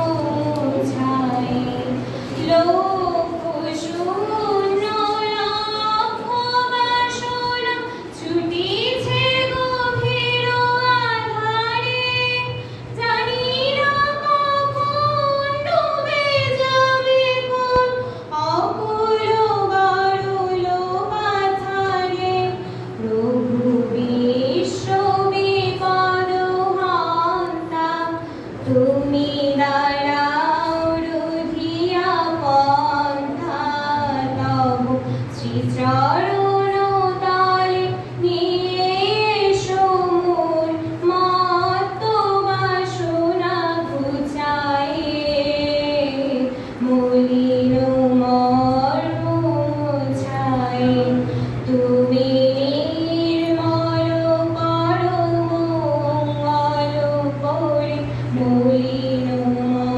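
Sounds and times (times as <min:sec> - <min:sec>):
girl singing into microphone: 0:00.0 - 0:59.9
steady low hum: 0:00.0 - 0:59.9.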